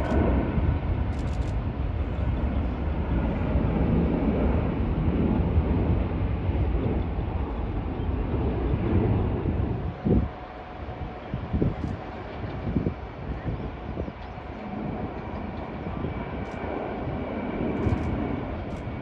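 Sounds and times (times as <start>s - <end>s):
airplane engine rumble: 0.0s - 19.0s.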